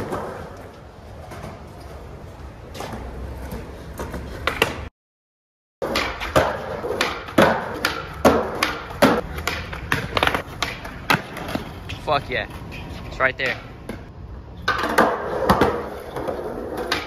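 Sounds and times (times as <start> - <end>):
skateboard clacking on ground: 0.0 - 4.9, 5.8 - 17.0
skateboard rolling: 0.0 - 4.9, 5.8 - 17.0.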